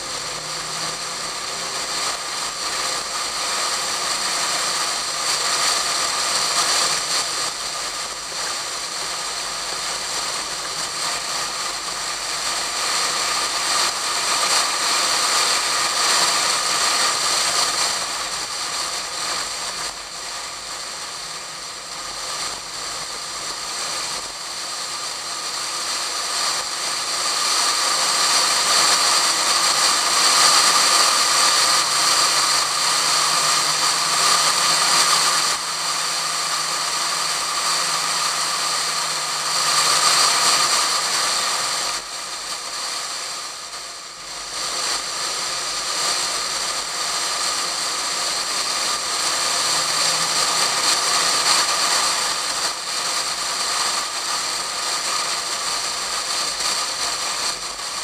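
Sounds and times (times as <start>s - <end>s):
faint car engine: 0.0s - 58.0s.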